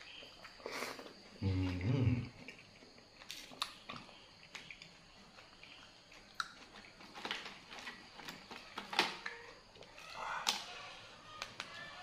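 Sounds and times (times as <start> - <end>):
chewing crab: 0.3 - 12.0.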